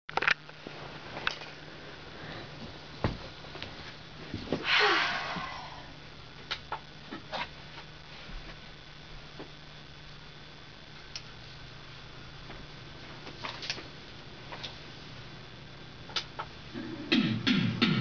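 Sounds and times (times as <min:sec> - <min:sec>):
low steady hum: 0:00.1 - 0:18.0.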